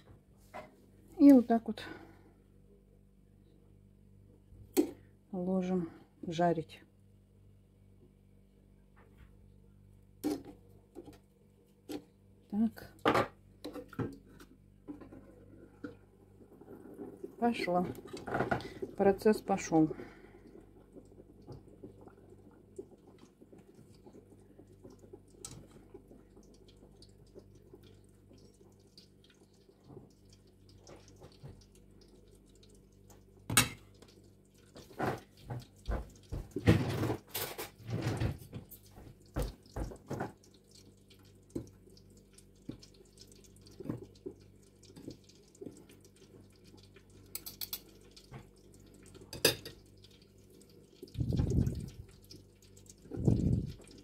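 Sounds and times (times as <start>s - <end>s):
oil bubbling in deep fryer: 10.1s - 54.0s.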